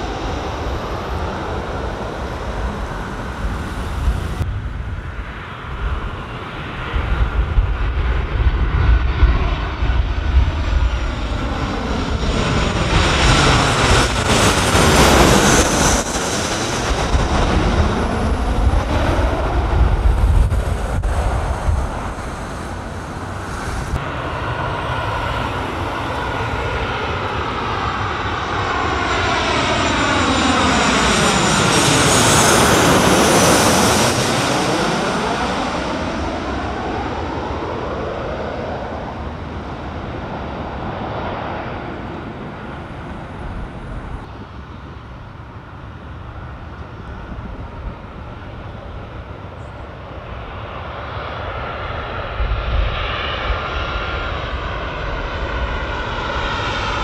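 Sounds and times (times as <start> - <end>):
jet airliner roaring overhead: 0.0 - 57.0.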